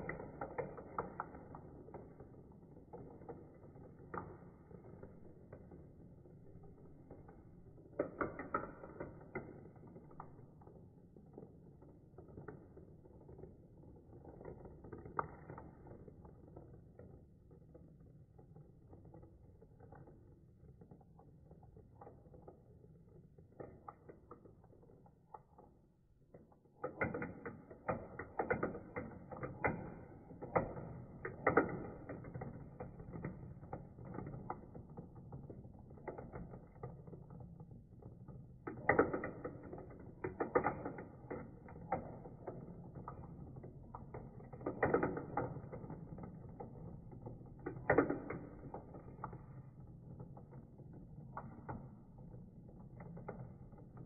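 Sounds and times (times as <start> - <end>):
plastic marbles clattering and rolling: 0.0 - 54.0.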